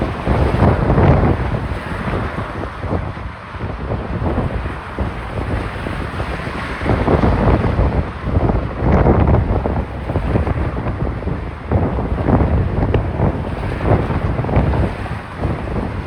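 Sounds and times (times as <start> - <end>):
wind buffeting phone microphone: 0.0 - 16.0.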